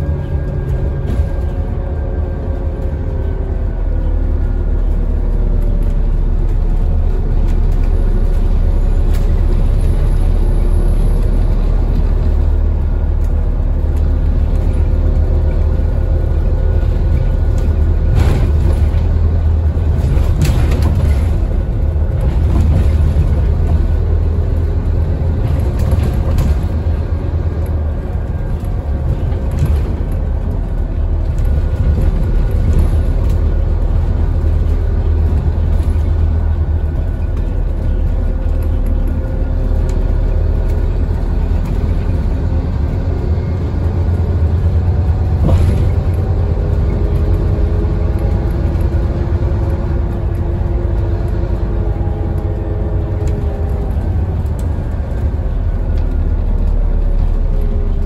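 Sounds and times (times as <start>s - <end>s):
bus diesel engine rumble: 0.0s - 58.0s
engine and gearbox whine: 0.0s - 58.0s.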